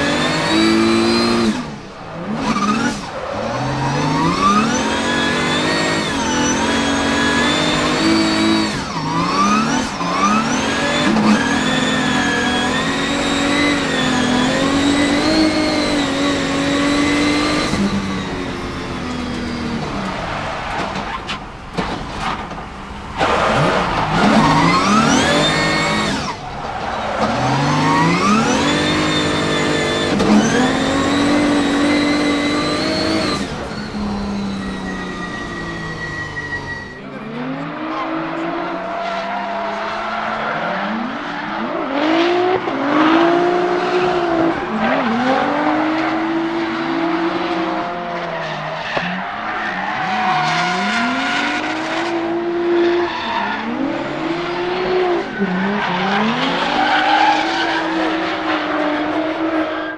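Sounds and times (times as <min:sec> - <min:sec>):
car engine revving hard: 0:00.0 - 0:21.1, 0:22.9 - 0:49.1, 0:49.7 - 0:59.9.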